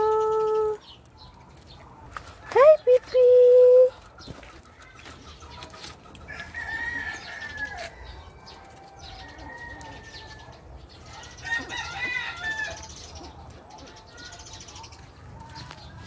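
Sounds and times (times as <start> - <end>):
chickens calling: 0.0 - 16.0.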